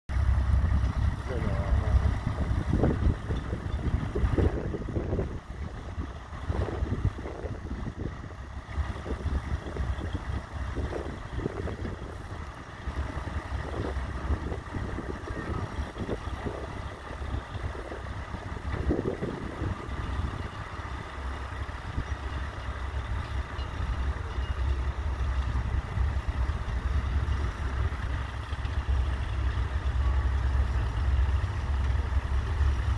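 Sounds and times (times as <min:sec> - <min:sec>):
tractor diesel engine rumbling: 0:00.1 - 0:32.9.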